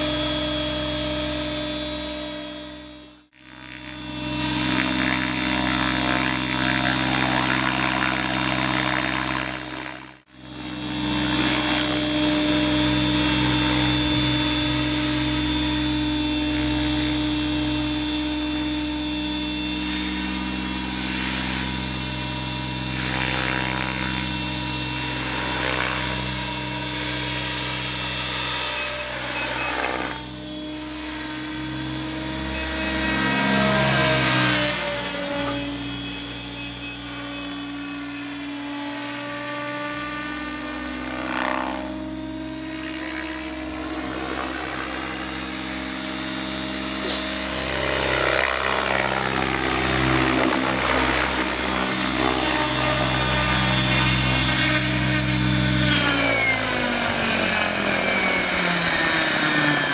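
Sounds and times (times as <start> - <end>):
helicopter rotor and motor drone: 0.0 - 59.9.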